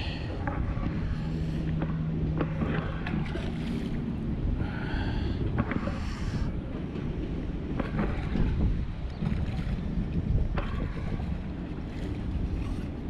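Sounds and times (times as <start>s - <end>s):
steady low hum: 0.0s - 13.0s
wind buffeting microphone: 0.0s - 13.0s.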